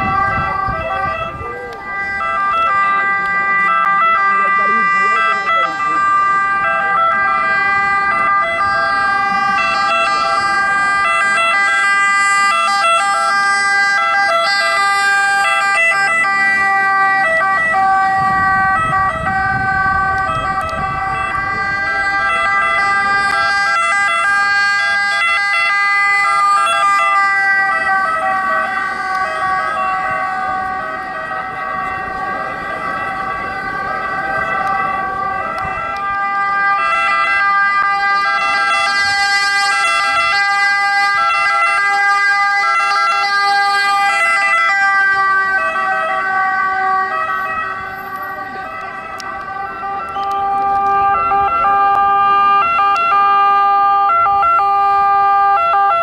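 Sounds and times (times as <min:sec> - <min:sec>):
ambulance engine and tyres passing: 0:00.0 - 0:56.0
ambulance siren: 0:00.0 - 0:56.0.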